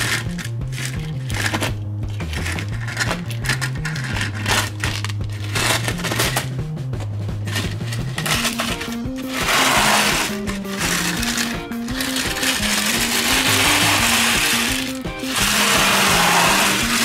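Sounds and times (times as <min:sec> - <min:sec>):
background music with bass line: 0:00.0 - 0:17.0
gravel crunching under toy truck: 0:00.0 - 0:17.0.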